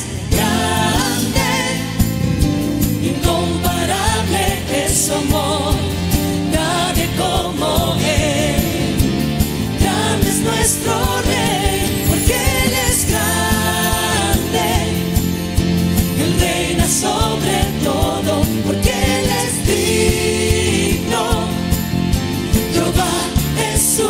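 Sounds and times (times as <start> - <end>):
people singing: 0.0 - 24.0
worship band playing: 0.0 - 24.0.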